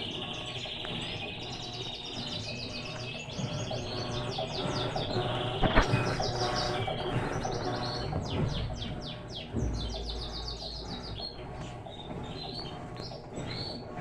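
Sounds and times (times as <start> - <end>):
low hum: 0.0 - 14.0
small birds chirping: 0.0 - 14.0.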